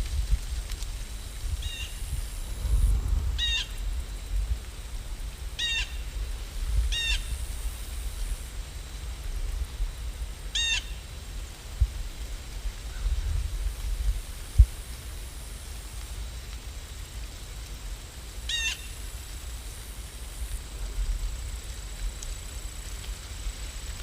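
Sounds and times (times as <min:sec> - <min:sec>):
rain and wind rumble: 0:00.0 - 0:24.0.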